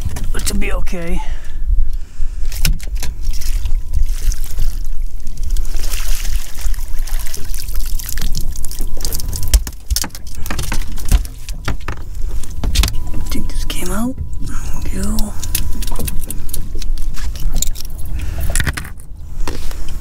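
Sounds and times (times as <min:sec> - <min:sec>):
wind rumbling on microphone: 0:00.0 - 0:20.0
water splashing and trickling: 0:02.5 - 0:20.0.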